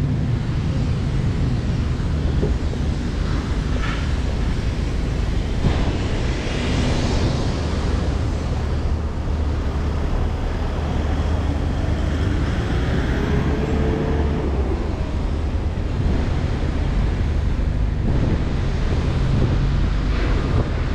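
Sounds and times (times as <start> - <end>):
city traffic: 0.0 - 20.9
tyres on wet road: 0.0 - 20.9
wind buffeting microphone: 0.0 - 20.9.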